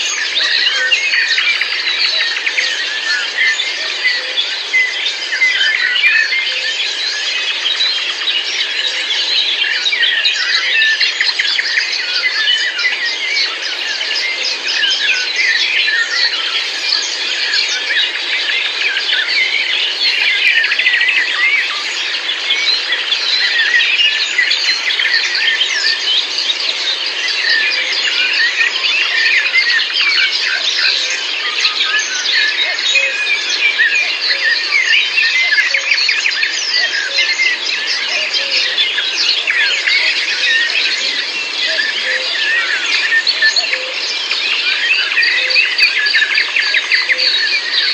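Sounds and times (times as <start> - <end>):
birds chirping and whistling: 0.0 - 47.9.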